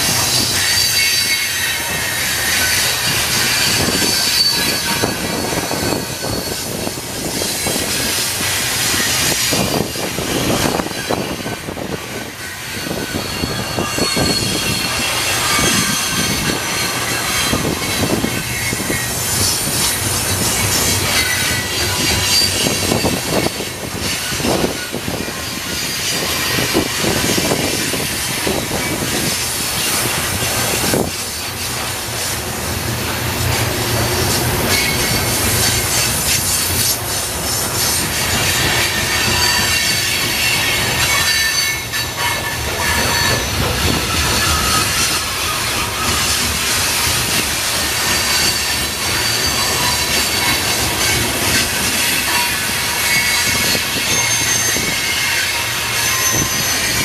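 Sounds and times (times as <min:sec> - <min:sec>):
high-pitched wheel squeal: 0:00.0 - 0:31.7, 0:34.2 - 0:57.0
clacks at rail joints: 0:00.0 - 0:57.0
train wheels rolling on rail: 0:00.0 - 0:57.0.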